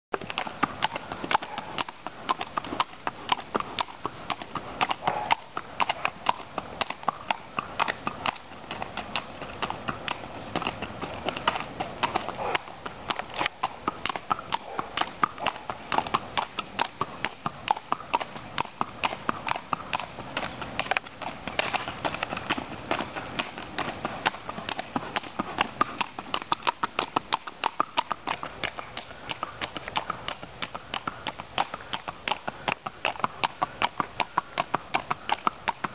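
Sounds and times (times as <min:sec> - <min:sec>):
hooves clip-clopping on asphalt: 0:00.1 - 0:35.9.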